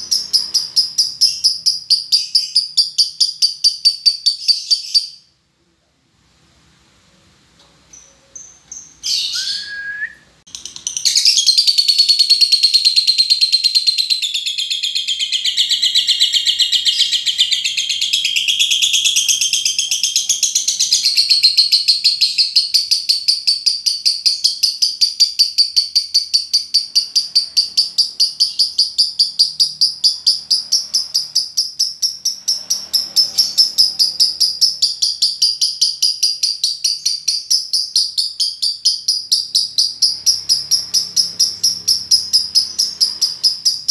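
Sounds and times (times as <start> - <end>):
fast high-pitched bird trill: 0.0 - 5.3, 8.0 - 43.9
lovebird chirps: 0.0 - 5.4, 7.9 - 43.9.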